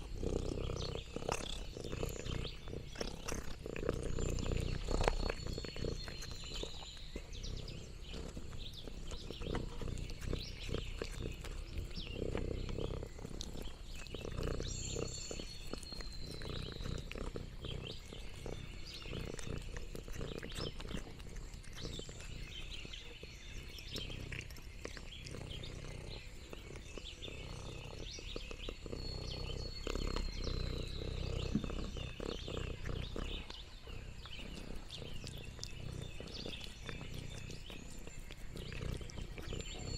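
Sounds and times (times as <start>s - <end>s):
cat purring: 0.0s - 39.9s
small crackles and clicks: 0.9s - 27.1s, 31.4s - 39.9s.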